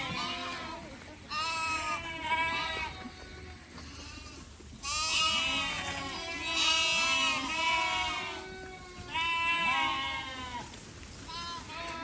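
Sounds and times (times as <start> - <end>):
goats and sheep bleating: 0.0 - 12.0.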